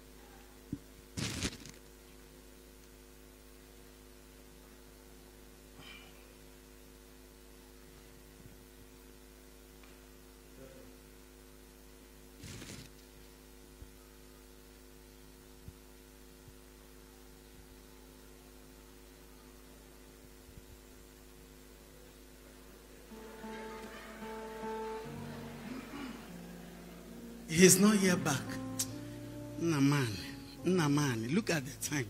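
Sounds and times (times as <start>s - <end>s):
electrical mains hum with hiss: 0.0s - 32.0s.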